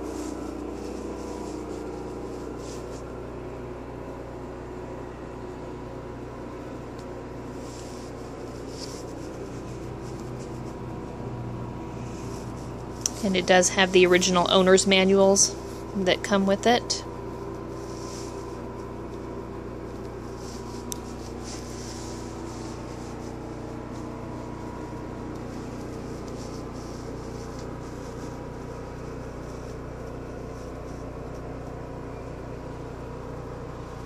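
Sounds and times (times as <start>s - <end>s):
steady mechanical hum: 0.0s - 34.0s.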